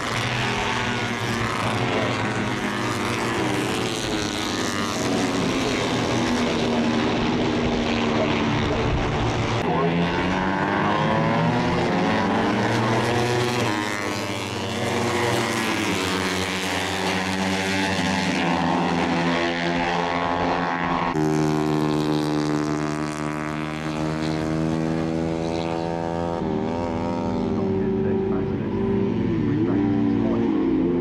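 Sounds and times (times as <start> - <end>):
race motorcycle engines at high revs: 0.0 - 31.0.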